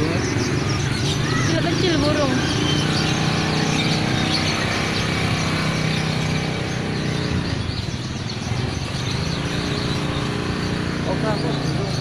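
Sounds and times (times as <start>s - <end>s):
engine humming: 0.0s - 12.0s
small birds chirping: 0.0s - 12.0s.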